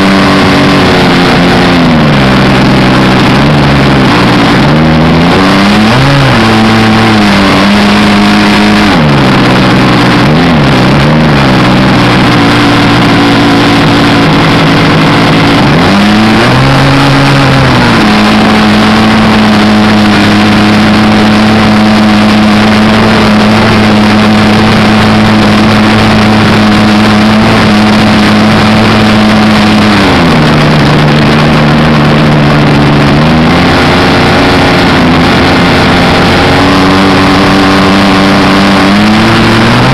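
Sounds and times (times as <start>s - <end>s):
model airplane engine running: 0.0s - 39.9s
wind rushing over microphone: 0.0s - 39.9s.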